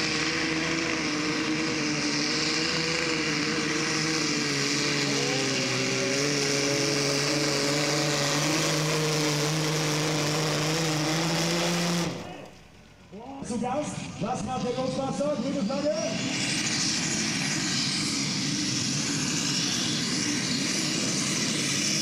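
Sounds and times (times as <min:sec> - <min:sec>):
tractor engine at full load: 0:00.0 - 0:22.0.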